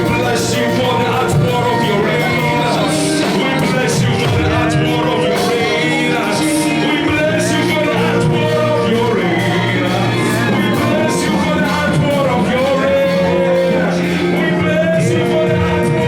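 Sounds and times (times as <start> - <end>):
steady drum beat: 0.0 - 16.0
worship singing over band: 0.0 - 16.0.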